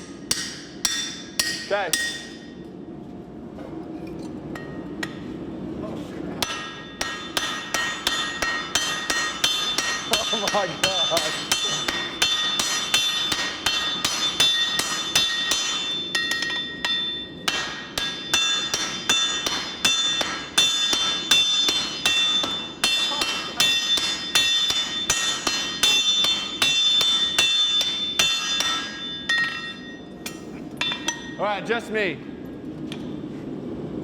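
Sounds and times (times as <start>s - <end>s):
hammer striking hot steel on anvil: 0.0s - 2.7s, 4.5s - 5.4s, 6.4s - 31.5s
high steel ringing: 0.0s - 2.7s, 6.4s - 31.6s.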